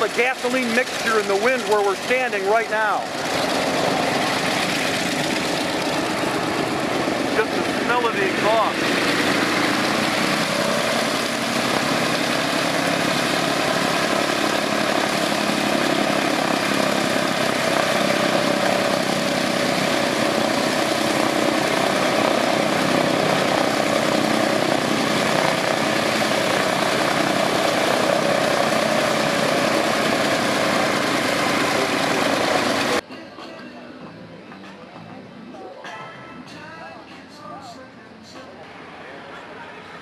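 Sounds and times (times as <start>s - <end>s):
radial aircraft engine running: 0.0s - 33.0s.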